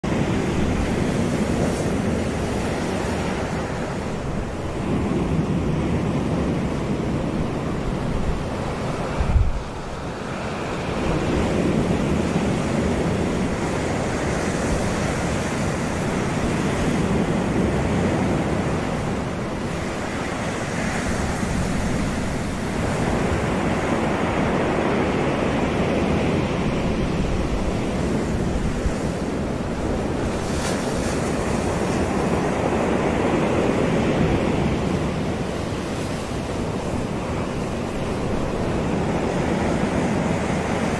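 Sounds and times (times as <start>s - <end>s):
surf breaking on beach: 0.0s - 40.9s
wind on microphone: 0.0s - 40.9s.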